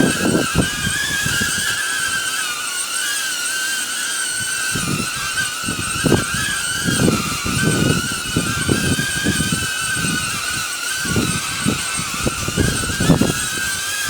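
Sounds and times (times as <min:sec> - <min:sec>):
wind buffeting microphone: 0:00.0 - 0:02.2, 0:04.4 - 0:14.0
drone propellers whining: 0:00.0 - 0:14.0.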